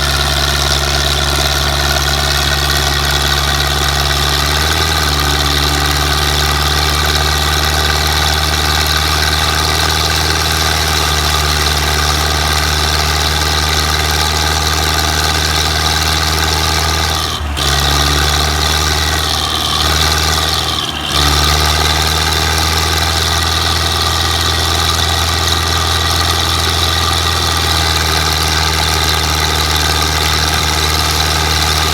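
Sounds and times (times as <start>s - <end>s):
tractor diesel engine idling: 0.0s - 31.9s.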